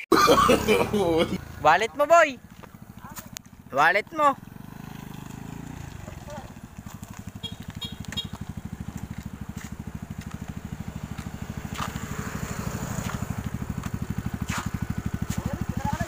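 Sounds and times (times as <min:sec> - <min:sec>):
mini motorcycle engine idling: 0:00.4 - 0:16.0.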